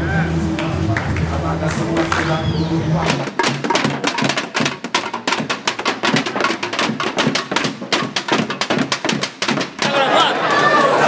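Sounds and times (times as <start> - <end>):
children drumming on plastic tubs: 0.5 - 10.4.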